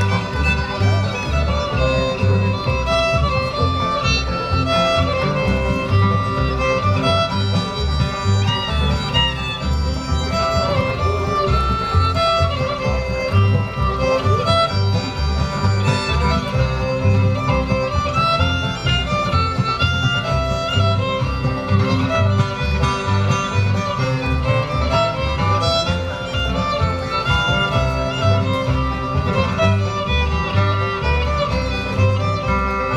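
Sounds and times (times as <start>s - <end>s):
fiddle playing melody: 0.0s - 32.9s
guitar strumming rhythm: 0.0s - 32.9s.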